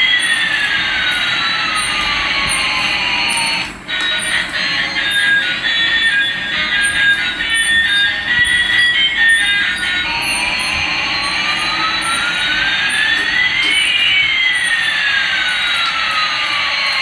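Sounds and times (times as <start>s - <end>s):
tone gliding up: 0.0s - 16.0s
tone gliding down: 1.0s - 15.6s.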